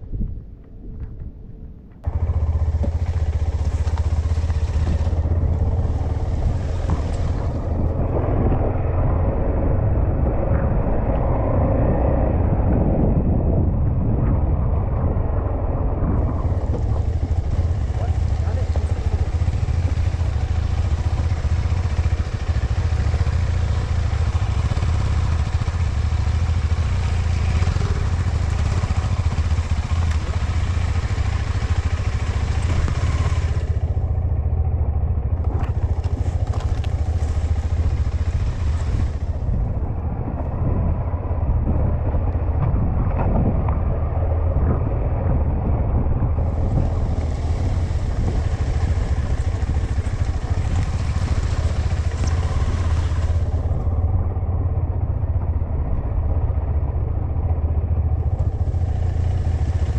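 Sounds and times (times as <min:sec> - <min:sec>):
motorcycle engine running: 0:02.0 - 0:59.9.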